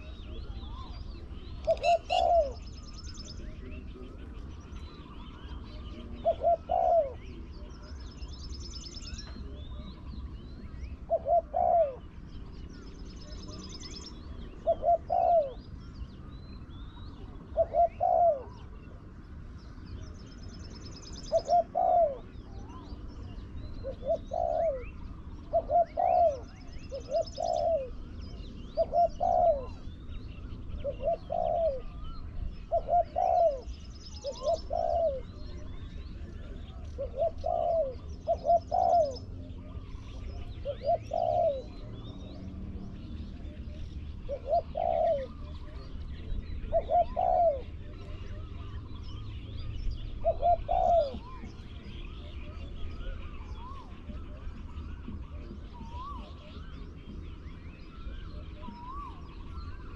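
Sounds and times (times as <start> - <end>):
doves cooing: 0.0 - 59.9
small birds chirping and trilling: 0.0 - 59.9.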